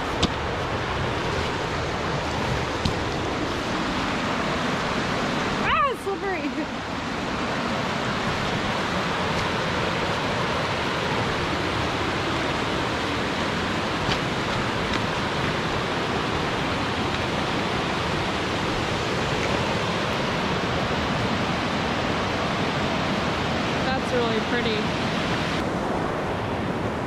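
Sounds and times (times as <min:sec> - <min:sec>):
creek and waterfall rushing: 0:00.0 - 0:27.0.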